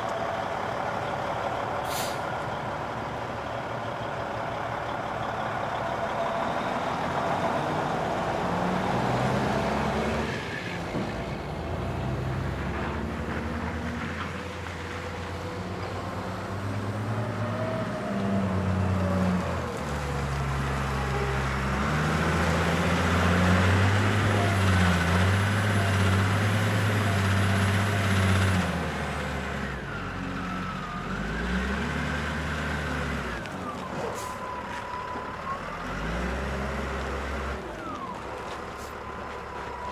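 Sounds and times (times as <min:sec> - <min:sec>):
heavy vehicle engines revving: 0:00.0 - 0:39.9.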